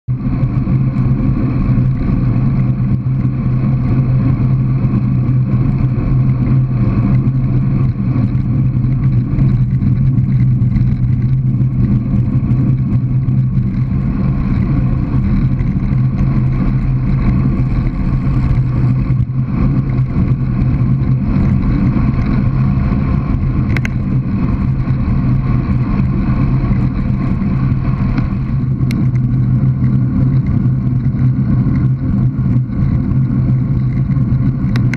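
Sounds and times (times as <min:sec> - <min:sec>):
constant low hum: 0:00.0 - 0:34.9
road noise: 0:00.0 - 0:34.9
wind rumble: 0:00.0 - 0:34.9.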